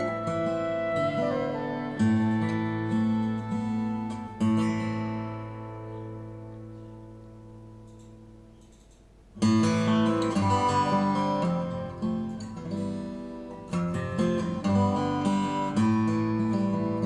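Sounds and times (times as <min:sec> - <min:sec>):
acoustic guitar chords over loudspeakers: 0:00.0 - 0:07.5, 0:09.4 - 0:17.0.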